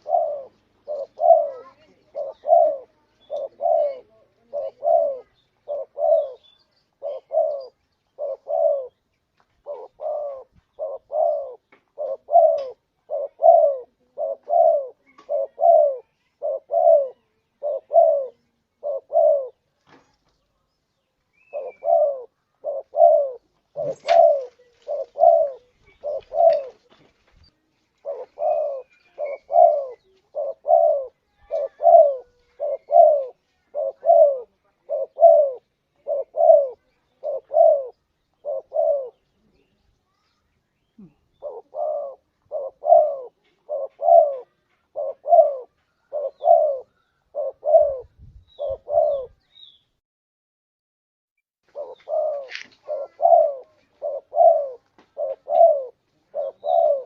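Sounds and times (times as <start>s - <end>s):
dove cooing: 0.0s - 19.7s, 21.4s - 27.0s, 27.9s - 39.8s, 41.0s - 49.4s, 51.7s - 57.0s.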